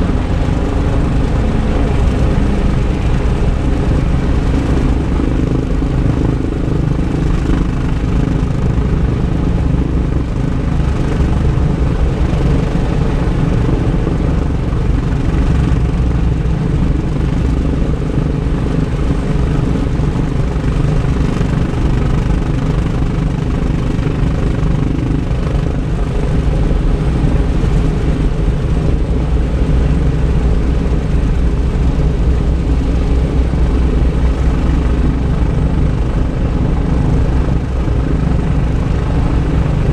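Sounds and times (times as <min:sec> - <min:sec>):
aircraft piston engines rumbling: 0:00.0 - 0:39.9.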